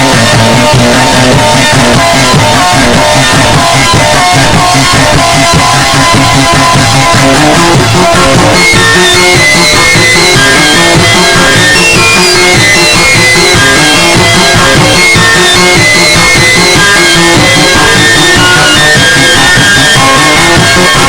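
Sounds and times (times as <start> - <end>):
distorted guitar rock music: 0.0 - 21.0.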